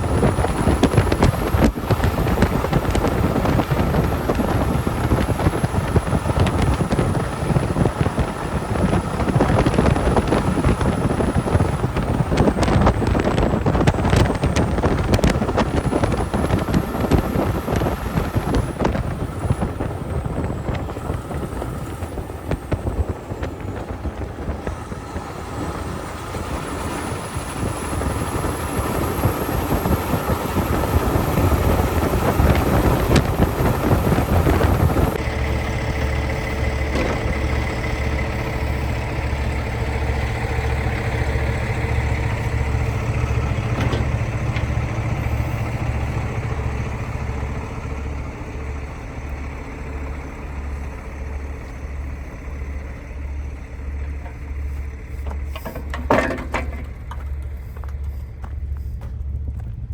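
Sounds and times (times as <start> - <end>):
truck engine and road rumble: 0.0 - 59.9.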